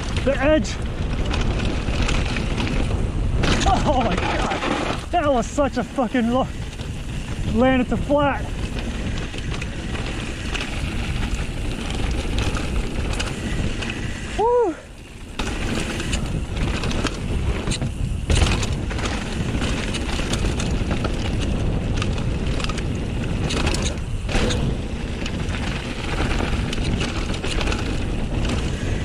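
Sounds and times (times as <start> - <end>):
bike clunking over bumps: 0.0 - 14.4, 15.0 - 29.0
bike tyre rumble and rattling: 0.0 - 29.0
wind on microphone: 0.0 - 29.0.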